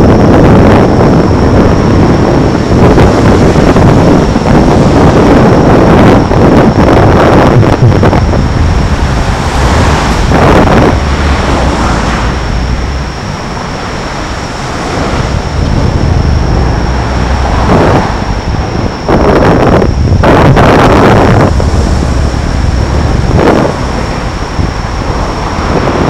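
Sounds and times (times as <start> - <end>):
faint high whine: 0.0 - 26.0
road traffic passing: 0.0 - 26.0
wind buffeting microphone: 0.0 - 26.0.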